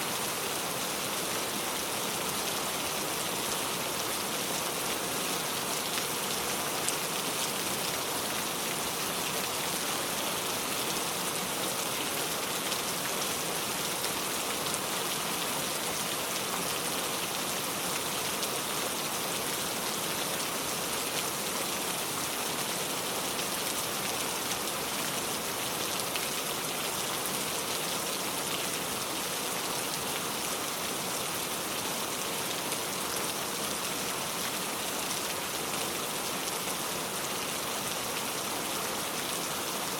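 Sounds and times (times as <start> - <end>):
rain falling on a car: 0.2 - 39.9.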